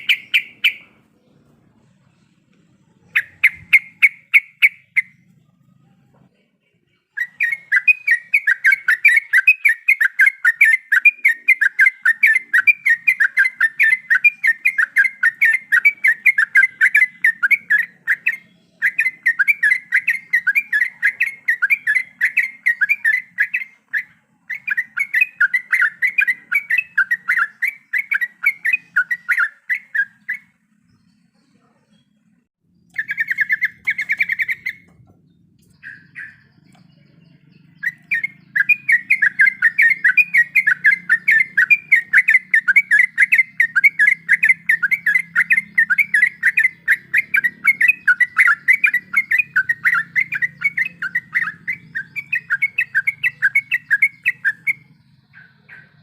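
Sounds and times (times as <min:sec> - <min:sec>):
bird singing chattering runs: 0:00.0 - 0:05.8, 0:07.0 - 0:56.0.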